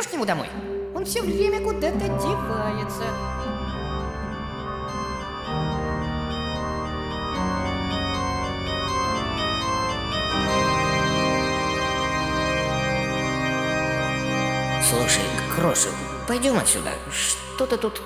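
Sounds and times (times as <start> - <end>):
organ-like keyboard music: 0.2 - 18.0.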